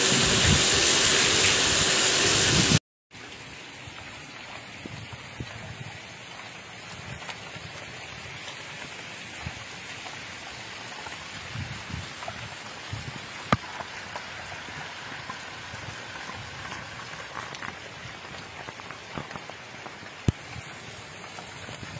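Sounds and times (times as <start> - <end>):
heavy rain on standing water: 0.0 - 21.9.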